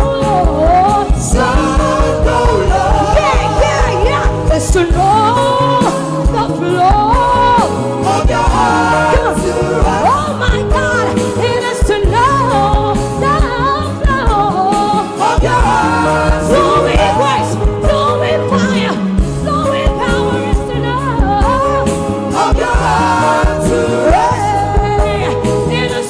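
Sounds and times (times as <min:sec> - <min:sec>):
choir singing wordless runs: 0:00.0 - 0:26.0
gospel song with beat and bass: 0:00.0 - 0:26.0
lead voice singing: 0:00.0 - 0:26.0.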